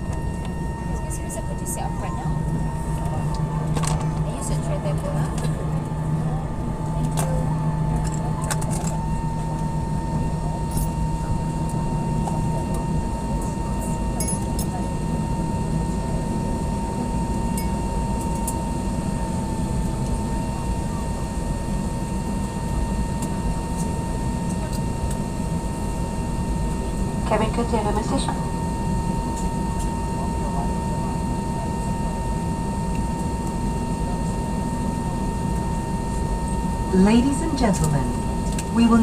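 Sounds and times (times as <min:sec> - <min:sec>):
aircraft cabin hum: 0:00.0 - 0:39.0.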